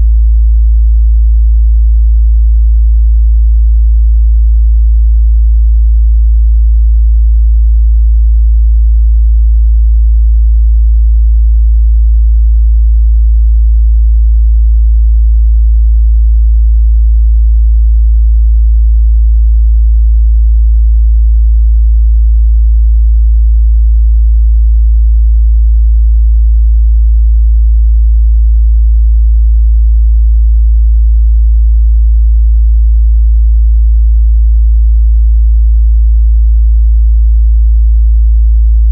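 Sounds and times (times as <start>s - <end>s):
low sine test tone: 0.0s - 38.9s.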